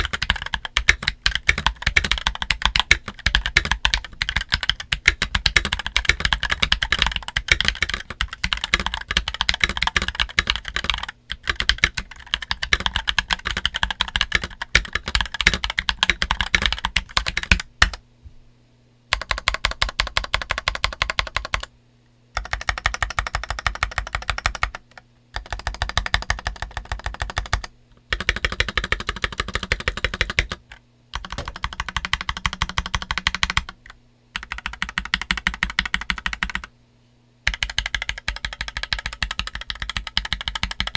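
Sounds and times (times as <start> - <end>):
mechanical keyboard typing: 0.0 - 18.0, 19.1 - 21.7, 22.4 - 36.7, 37.4 - 40.9.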